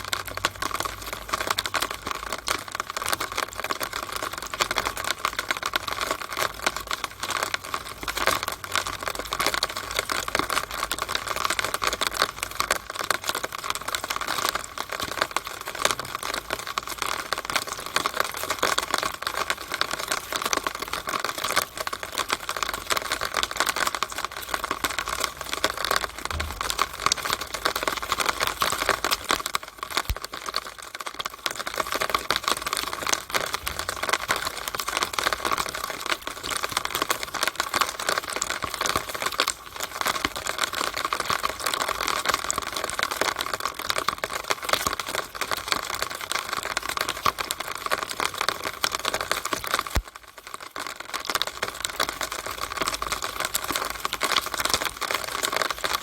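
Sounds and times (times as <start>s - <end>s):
rainwater dripping in downspout: 0.0s - 56.0s.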